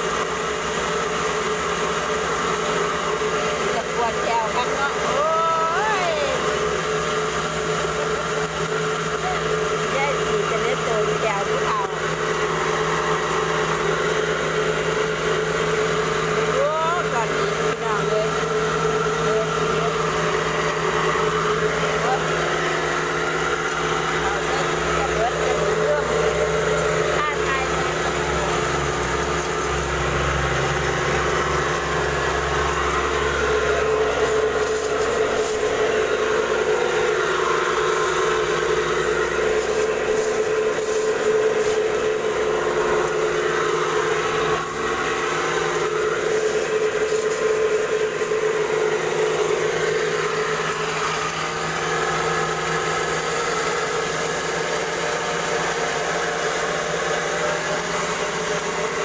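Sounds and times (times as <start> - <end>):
rice mill humming: 0.0 - 59.0.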